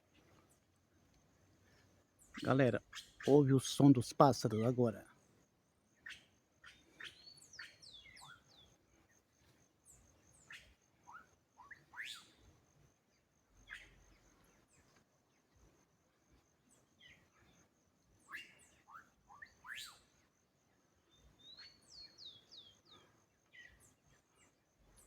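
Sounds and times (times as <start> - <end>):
birdsong chirps: 0.0 - 25.0.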